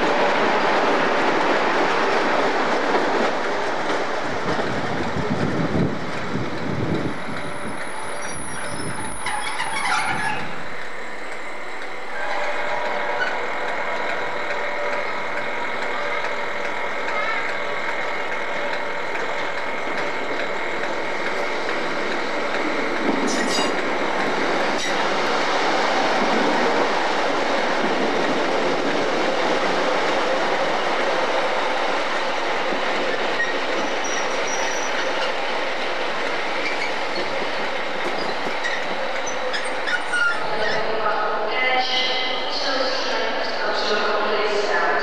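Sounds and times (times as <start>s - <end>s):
train rumbling past: 0.0s - 45.0s.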